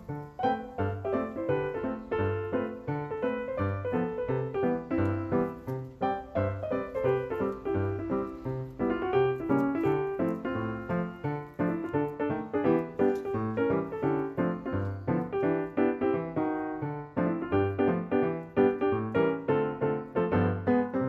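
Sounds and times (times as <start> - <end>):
piano music with bass line: 0.0 - 21.0.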